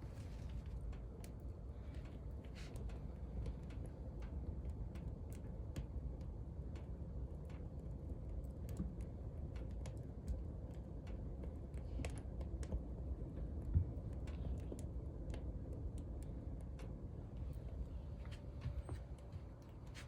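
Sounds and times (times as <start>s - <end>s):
firewood crackling in a stove: 0.0s - 20.0s
low steady rumble: 0.0s - 20.0s.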